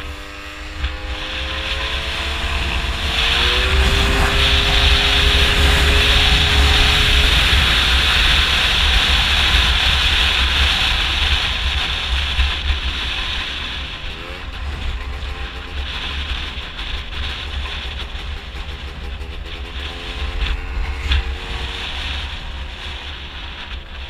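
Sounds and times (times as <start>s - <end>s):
scooter engine revving: 0.0s - 12.6s, 13.5s - 22.5s
wind buffeting microphone: 0.0s - 24.0s.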